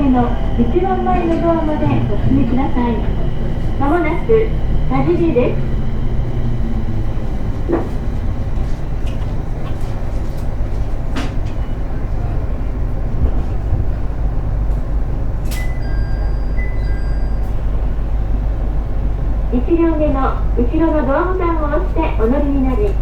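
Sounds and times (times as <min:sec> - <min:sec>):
rail clicks: 0:00.0 - 0:20.2
train wheels rumbling on rail: 0:00.0 - 0:23.0.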